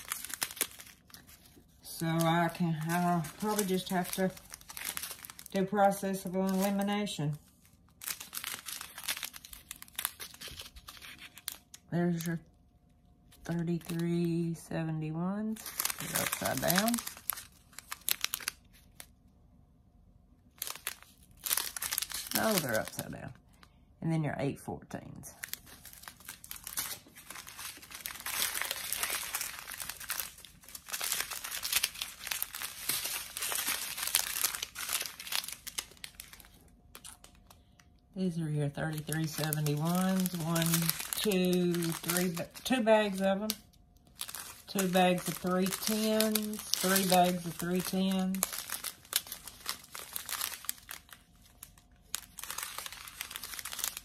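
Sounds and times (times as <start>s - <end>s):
plastic bags crinkling: 0.0s - 12.5s, 13.2s - 14.5s, 15.4s - 19.2s, 20.5s - 23.7s, 25.4s - 54.0s.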